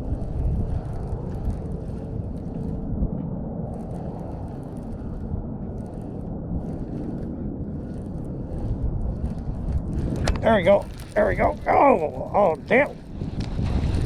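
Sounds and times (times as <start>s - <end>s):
faint crackles: 0.0s - 14.0s
low rumbling noise: 0.0s - 14.0s.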